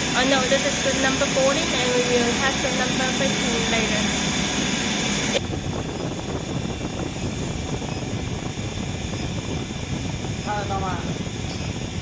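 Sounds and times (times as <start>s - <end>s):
loud hiss with high whining: 0.0s - 12.0s
low machinery rumble: 0.0s - 12.0s.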